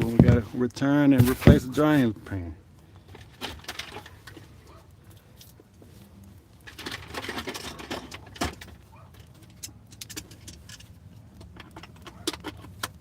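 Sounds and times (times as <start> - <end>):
clicks rustling and clatter: 0.0 - 2.0, 2.8 - 13.0.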